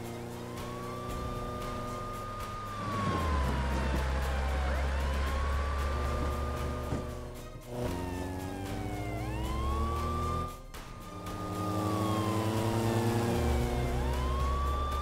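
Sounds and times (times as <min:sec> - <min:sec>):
low engine drone: 0:00.0 - 0:15.0
police siren wailing: 0:00.0 - 0:15.0.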